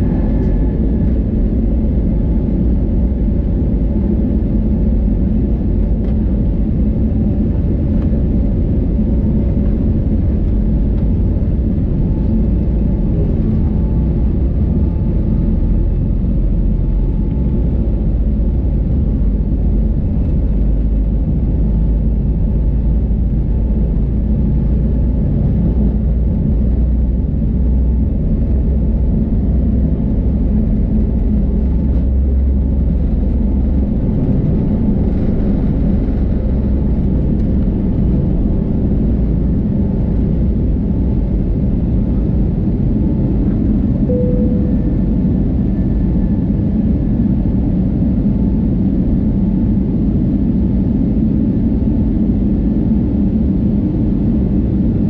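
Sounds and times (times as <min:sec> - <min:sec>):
jet engines at takeoff thrust: 0:00.0 - 0:55.0
wheels rumbling on runway: 0:00.0 - 0:55.0.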